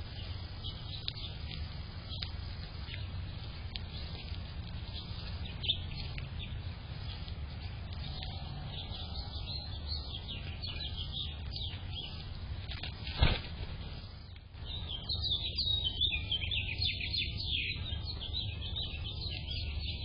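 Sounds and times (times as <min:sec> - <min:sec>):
low background rumble: 0:00.0 - 0:20.0
small birds chirping: 0:00.0 - 0:20.0.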